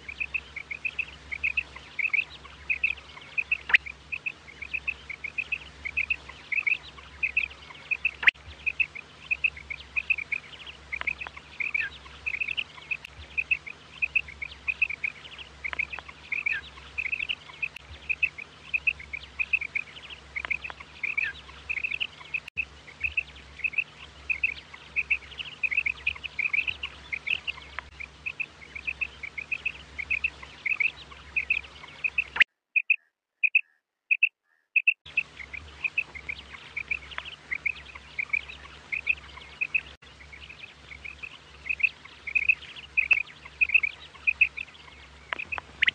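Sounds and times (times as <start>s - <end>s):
quail chirping: 0.0s - 45.9s.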